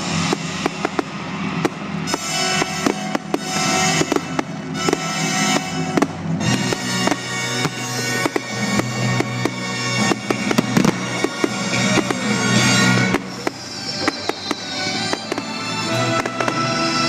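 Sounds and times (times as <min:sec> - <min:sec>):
firework falling whistle: 0:00.0 - 0:17.0
fireworks bangs and crackles: 0:00.0 - 0:17.0
music with held tones: 0:00.0 - 0:17.0.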